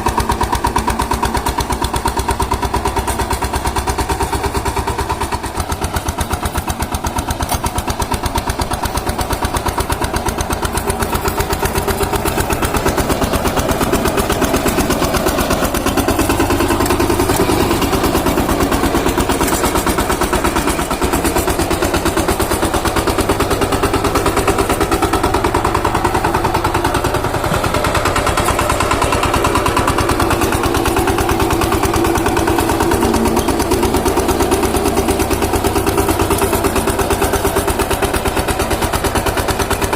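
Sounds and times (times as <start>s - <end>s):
tiller engine chugging: 0.0s - 39.9s.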